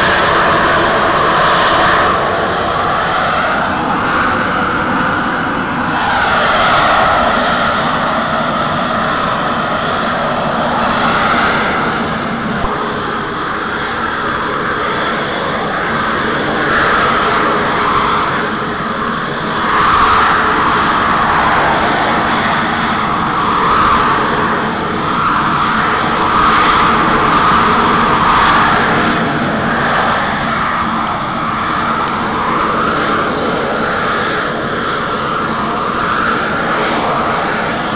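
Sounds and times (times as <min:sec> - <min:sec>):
jet aircraft engine overhead: 0:00.0 - 0:37.9.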